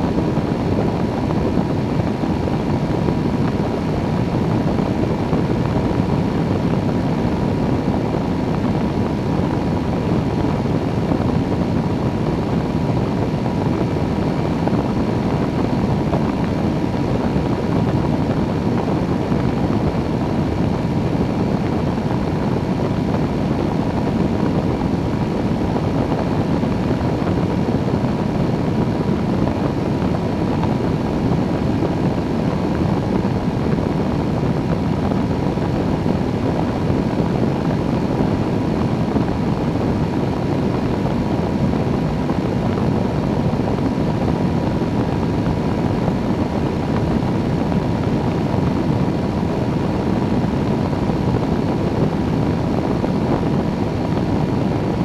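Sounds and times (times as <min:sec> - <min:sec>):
engine and propeller droning: 0:00.0 - 0:55.0
rushing airflow on camera: 0:00.0 - 0:55.0.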